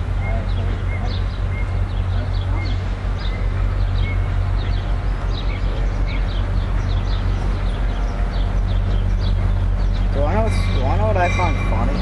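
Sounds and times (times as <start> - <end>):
birds chirping: 0.0 - 12.0
diesel locomotive rumble: 0.0 - 12.0.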